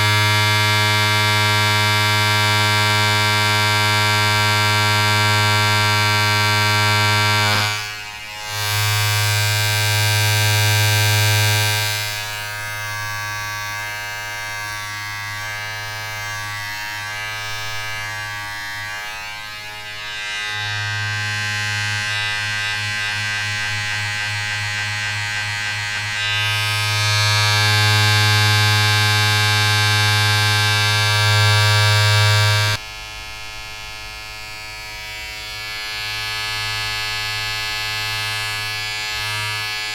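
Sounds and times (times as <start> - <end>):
steady electric buzz: 0.0 - 39.9.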